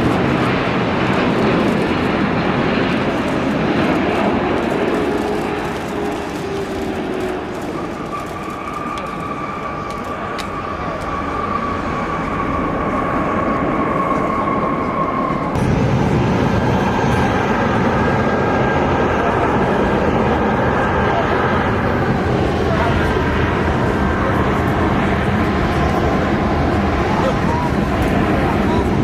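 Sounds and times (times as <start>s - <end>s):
jet engine deep rumble: 0.0s - 29.0s
jet engines rushing with whine: 0.0s - 29.0s.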